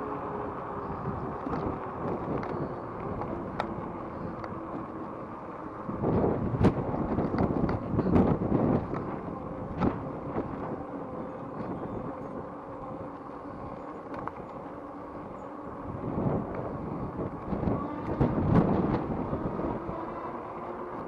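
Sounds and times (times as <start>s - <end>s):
electric motor whine: 0.0s - 21.0s
wind buffeting microphone: 0.0s - 21.0s.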